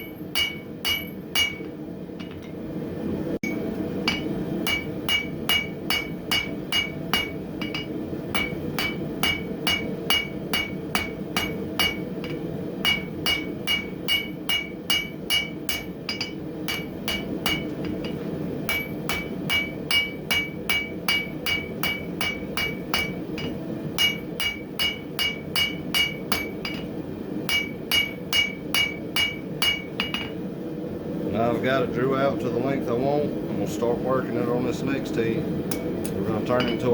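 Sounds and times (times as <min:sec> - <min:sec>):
hammer striking steel on anvil: 0:00.0 - 0:02.6, 0:03.4 - 0:30.4, 0:35.7 - 0:36.9.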